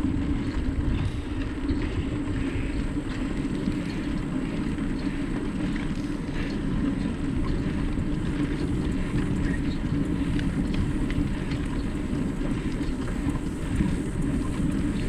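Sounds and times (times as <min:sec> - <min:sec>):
bike tyre noise on trail: 0:00.0 - 0:15.0
steady low hum: 0:00.0 - 0:15.0
wind noise on microphone: 0:00.0 - 0:15.0.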